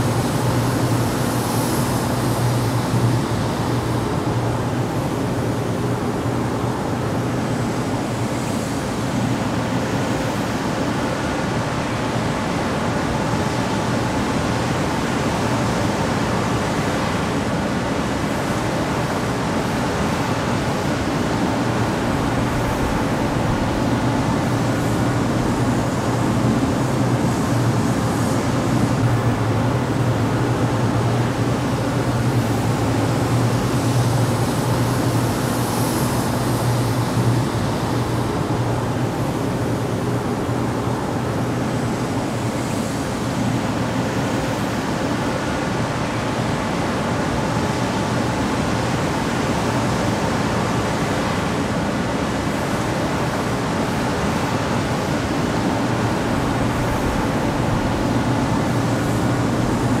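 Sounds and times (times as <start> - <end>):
exhaust fan air rush: 0.0 - 60.0
low fan hum: 0.0 - 60.0.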